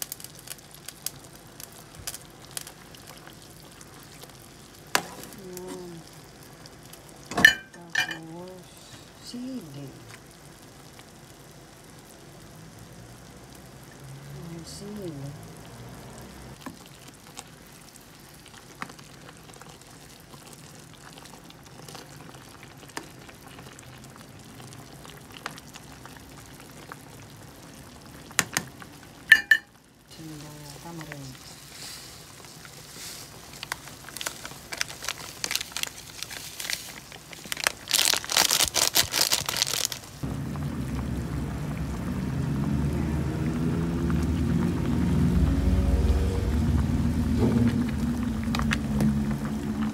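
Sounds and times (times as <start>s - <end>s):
soup bubbling in a pot: 0.0s - 49.9s.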